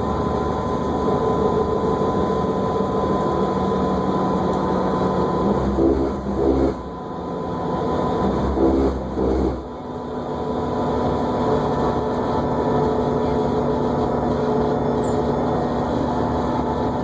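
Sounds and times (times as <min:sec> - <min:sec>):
bus running and road noise: 0:00.0 - 0:17.0.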